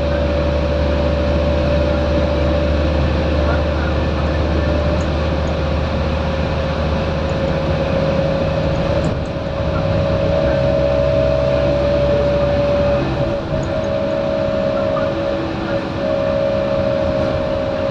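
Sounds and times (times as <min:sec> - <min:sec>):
bus diesel engine rumble: 0:00.0 - 0:17.9
bus whine: 0:00.0 - 0:17.9.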